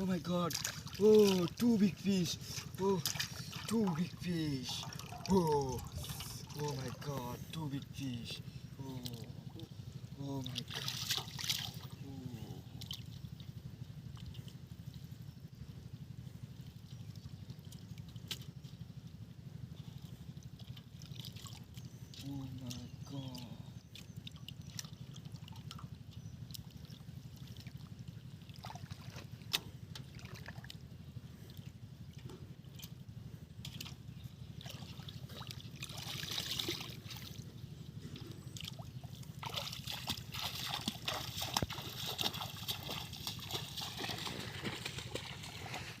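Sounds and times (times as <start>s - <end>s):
shallow water sloshing and trickling: 0.0s - 46.0s
steady low hum: 0.0s - 46.0s.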